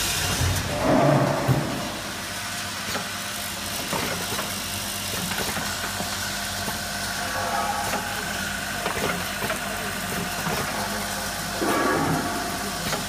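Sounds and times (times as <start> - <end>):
high machine whine: 0.0 - 3.7, 5.8 - 13.0
machine humming with clicks: 0.3 - 13.0.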